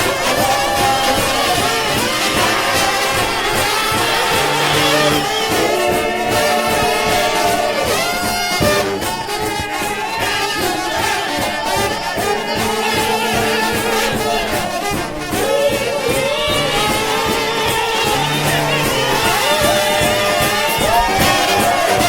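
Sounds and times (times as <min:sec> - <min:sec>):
steady drum beat: 0:00.0 - 0:22.0
trombones sliding between notes: 0:00.0 - 0:22.0.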